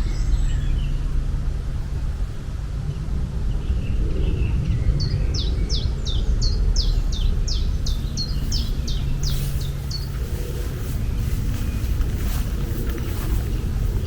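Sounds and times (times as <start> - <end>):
bird chirping: 0.0 - 1.3, 2.1 - 14.0
steady low rumble: 0.0 - 14.0.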